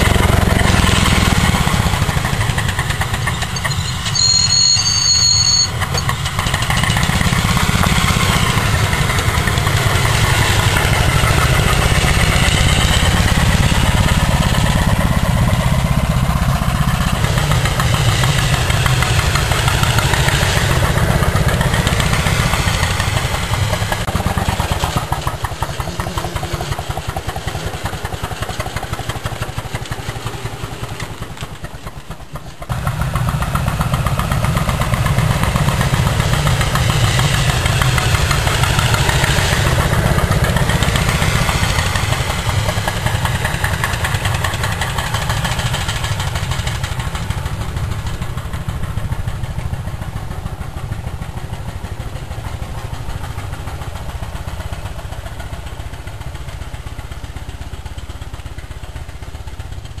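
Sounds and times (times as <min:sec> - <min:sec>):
steam engine running: 0:00.0 - 1:00.0.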